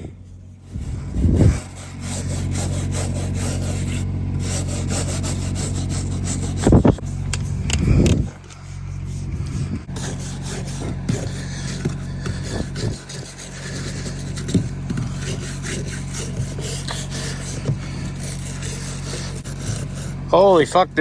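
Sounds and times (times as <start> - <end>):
motor hum: 0.0 - 21.0
wire brush scrubbing metal: 0.6 - 21.0.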